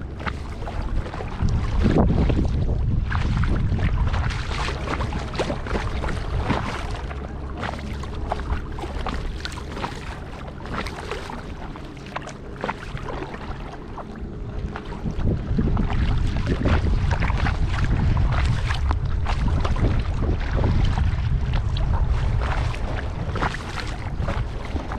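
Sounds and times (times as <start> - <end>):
kayak paddle strokes in water: 0.0 - 24.9
wind buffeting microphone: 0.0 - 24.9
water splashes and drips: 0.1 - 24.9.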